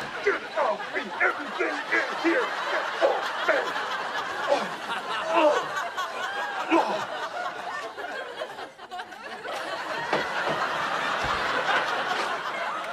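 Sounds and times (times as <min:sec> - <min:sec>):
studio audience laughing: 0:00.0 - 0:12.9.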